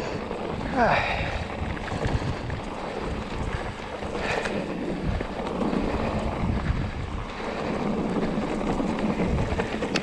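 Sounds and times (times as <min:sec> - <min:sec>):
bike knocks and rattles: 0:00.0 - 0:10.0
tyre noise on dirt: 0:00.0 - 0:10.0
wind buffeting microphone: 0:00.0 - 0:10.0.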